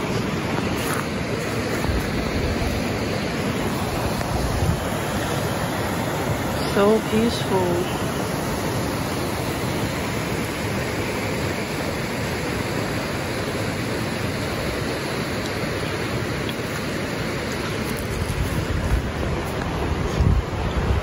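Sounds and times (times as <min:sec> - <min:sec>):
water rushing over stones: 0:00.0 - 0:21.0.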